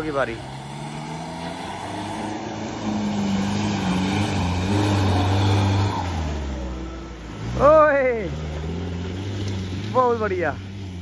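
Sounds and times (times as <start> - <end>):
suv engine pulling: 0.0 - 11.0.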